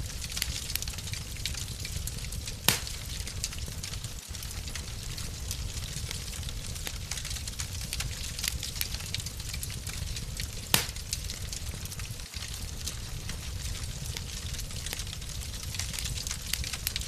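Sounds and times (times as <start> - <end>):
steady low rumble: 0.0 - 15.6
fire popping: 0.0 - 17.0
wood fire crackling: 0.0 - 17.0.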